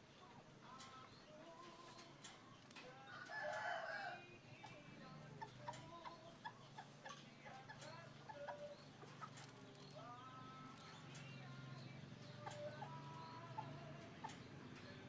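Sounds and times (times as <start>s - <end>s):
faint animal clucking calls: 0.0s - 15.0s.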